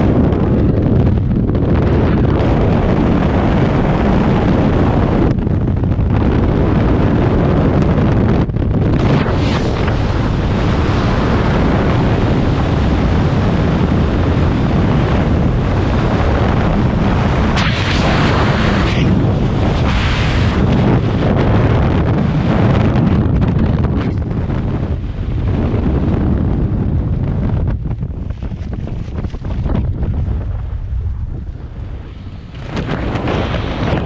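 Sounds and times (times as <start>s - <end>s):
freefall wind buffeting microphone: 0.0s - 34.0s.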